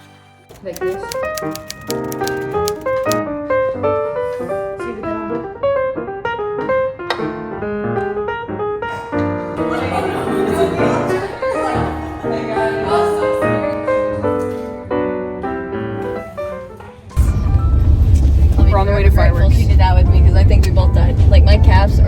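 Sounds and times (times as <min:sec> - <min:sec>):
piano music with beat: 0:00.0 - 0:18.2.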